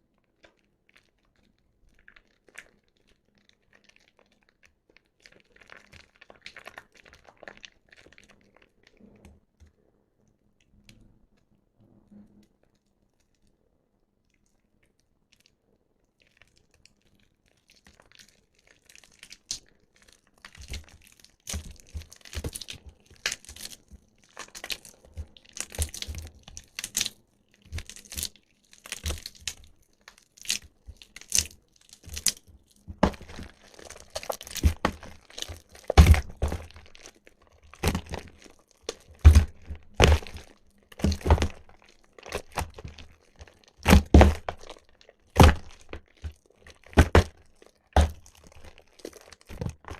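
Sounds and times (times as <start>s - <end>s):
wet soap crunching: 0.0s - 9.3s, 14.3s - 49.9s.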